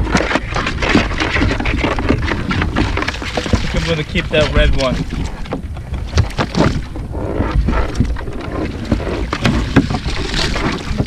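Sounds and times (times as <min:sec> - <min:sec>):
low wind rumble on microphone: 0:00.0 - 0:11.0.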